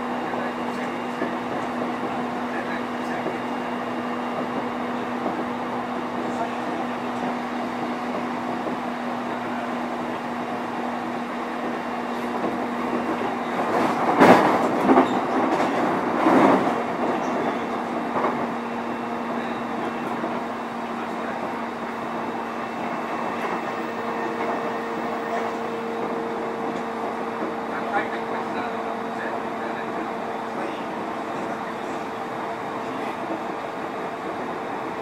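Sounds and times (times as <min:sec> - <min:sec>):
train motor hum: 0:00.0 - 0:35.0
wheels rumbling on rail: 0:00.0 - 0:35.0.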